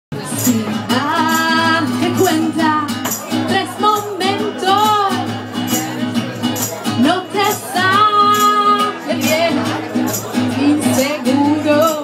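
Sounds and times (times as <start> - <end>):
strummed acoustic guitar: 0.1 - 12.0.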